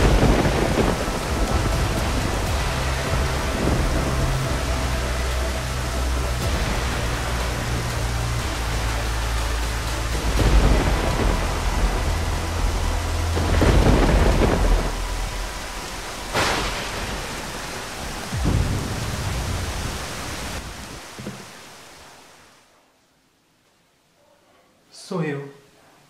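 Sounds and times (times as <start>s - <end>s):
thunder rumbling and cracking: 0.0s - 21.2s
heavy rain: 0.0s - 23.5s.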